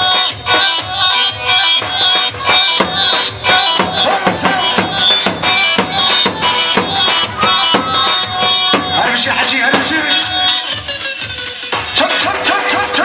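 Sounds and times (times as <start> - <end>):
band playing dance music: 0.0 - 13.0
driving percussion beat: 0.0 - 13.0.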